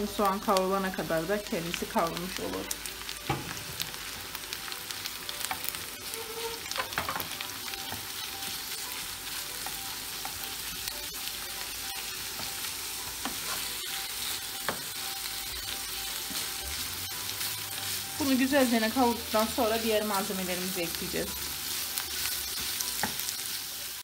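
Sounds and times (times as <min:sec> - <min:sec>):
meat sizzling in frying pan: 0:00.0 - 0:24.0.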